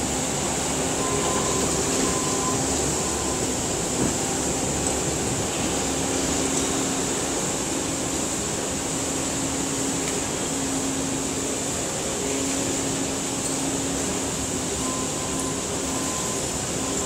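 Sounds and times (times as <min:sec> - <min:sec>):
skid-steer loader driving: 0:00.0 - 0:17.0.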